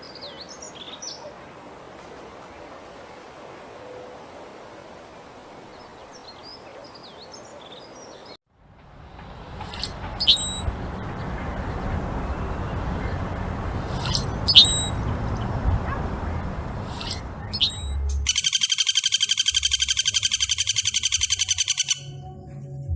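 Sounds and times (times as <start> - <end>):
birds chirping: 0.0 - 8.4, 9.0 - 22.2
low background noise: 0.0 - 22.1.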